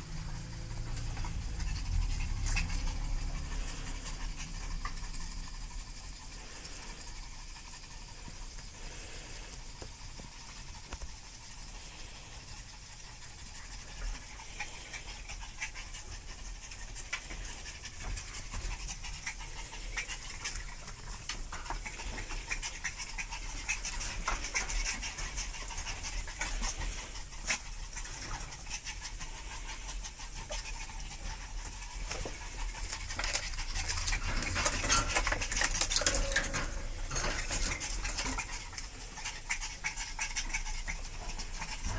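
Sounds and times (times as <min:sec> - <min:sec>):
claws ticking on hard floor: 0:00.0 - 0:41.9
puppies panting: 0:00.0 - 0:41.9.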